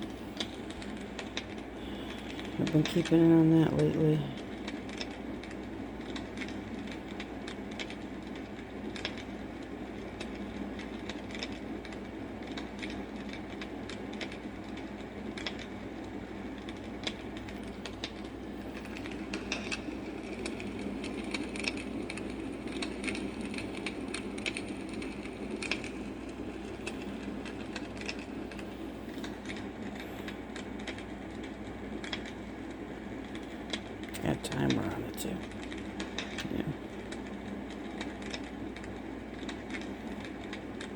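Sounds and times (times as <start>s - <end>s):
campfire sound machine rush: 0.0s - 40.9s
fire crackles and pops: 0.0s - 40.9s.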